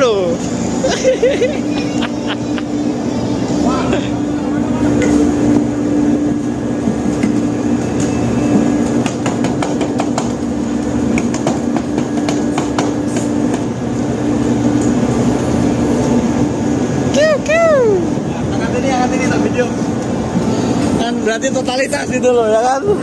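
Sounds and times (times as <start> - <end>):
ship machinery drone: 0.0 - 23.0.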